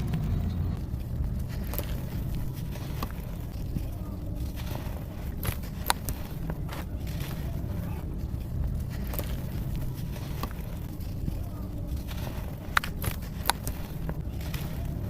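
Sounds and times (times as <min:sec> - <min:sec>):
dirt and coal crunching: 0:00.0 - 0:15.0
low rumble: 0:00.0 - 0:15.0.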